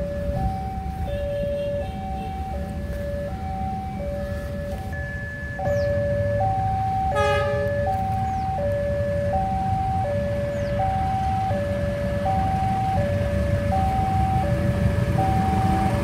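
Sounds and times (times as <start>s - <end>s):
level crossing alarm tones: 0.0s - 16.0s
low rumble of traffic: 0.0s - 16.0s.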